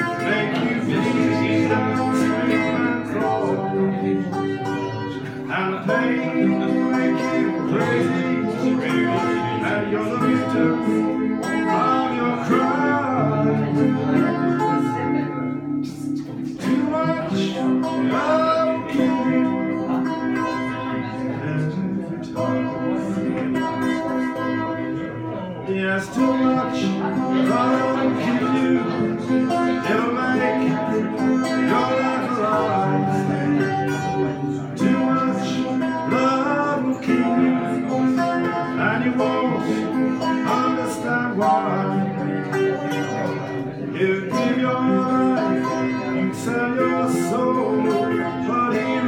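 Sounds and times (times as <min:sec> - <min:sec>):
man singing: 0:00.0 - 0:49.0
strummed acoustic guitar: 0:00.0 - 0:49.0.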